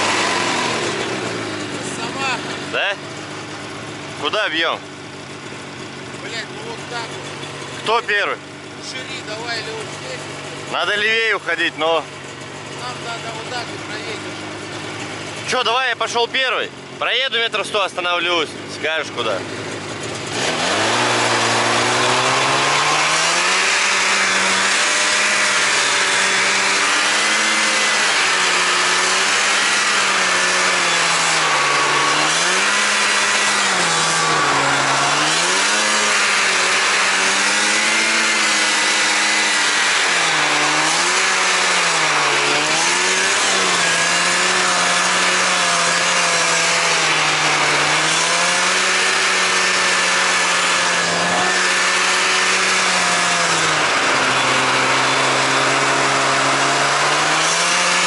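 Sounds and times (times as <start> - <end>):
snowmobile engine running hard: 0.0 - 58.0.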